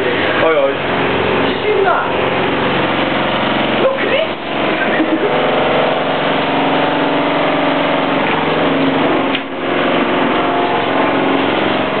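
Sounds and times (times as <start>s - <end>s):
washing machine running: 0.0s - 12.0s.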